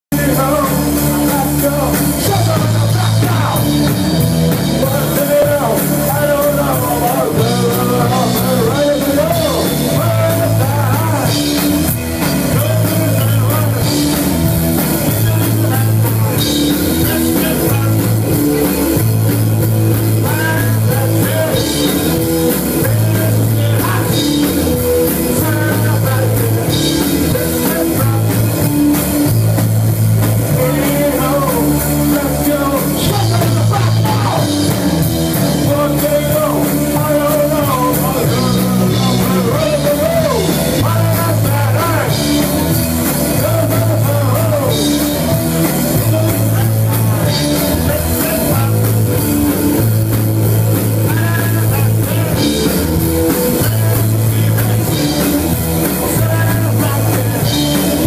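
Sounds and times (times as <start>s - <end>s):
bass guitar: 0.0s - 58.0s
person singing: 0.0s - 58.0s
drum kit beat: 0.1s - 58.0s.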